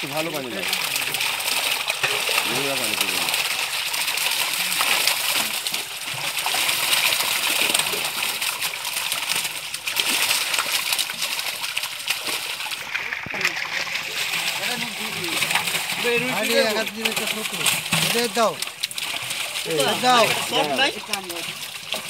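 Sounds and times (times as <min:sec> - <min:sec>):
fish thrashing and splashing: 0:00.0 - 0:22.0.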